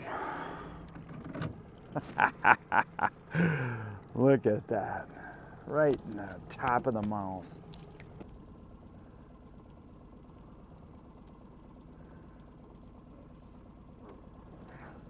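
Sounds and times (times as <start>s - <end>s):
faint outboard motor idling: 0.0s - 15.0s.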